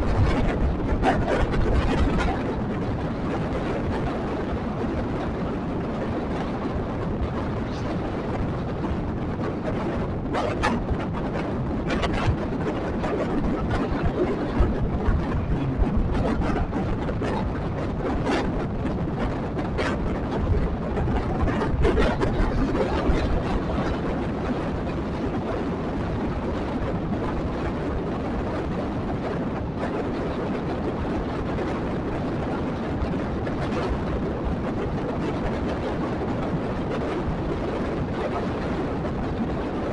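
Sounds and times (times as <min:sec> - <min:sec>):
motorcycle road noise: 0:00.0 - 0:39.8
wind rumble on microphone: 0:00.0 - 0:39.9.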